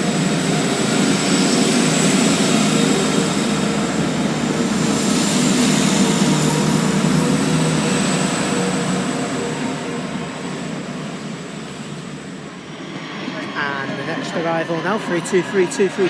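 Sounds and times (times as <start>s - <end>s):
diesel train engines running: 0.0s - 16.0s.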